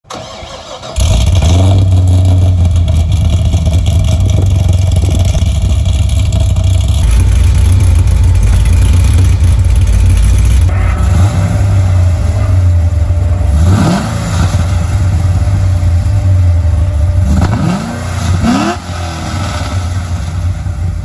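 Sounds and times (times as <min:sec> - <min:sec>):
car engine running: 0:00.9 - 0:21.0.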